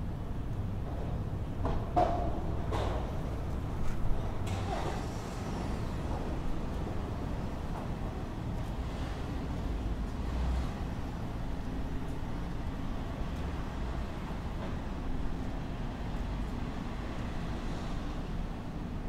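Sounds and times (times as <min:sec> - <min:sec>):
rumble of road traffic: 0:00.0 - 0:19.0.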